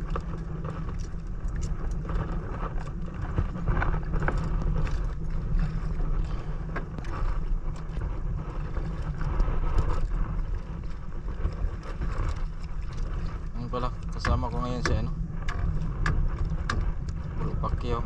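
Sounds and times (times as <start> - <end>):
water slapping against boat: 0.0 - 18.0
wind buffeting microphone: 0.0 - 18.0.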